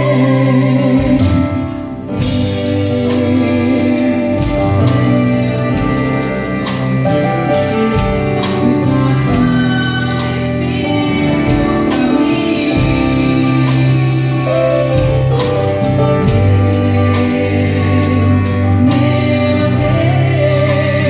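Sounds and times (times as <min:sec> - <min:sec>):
gospel pop song with band: 0:00.0 - 0:21.0
person singing: 0:02.4 - 0:21.0.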